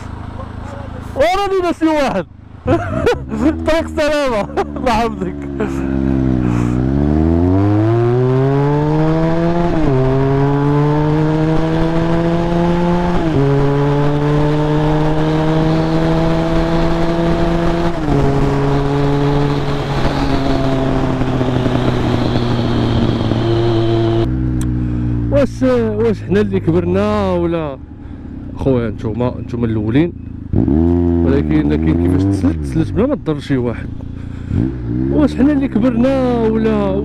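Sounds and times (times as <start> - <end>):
motorcycle engine shifting gears: 3.3 - 27.1, 27.8 - 37.0.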